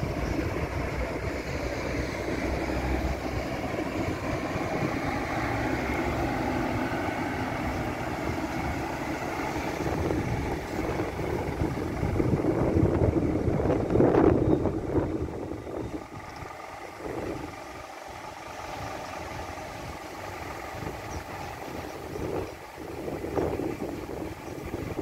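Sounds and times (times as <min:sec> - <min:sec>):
cars passing: 0:00.0 - 0:25.0
fire engine diesel engine: 0:00.0 - 0:25.0.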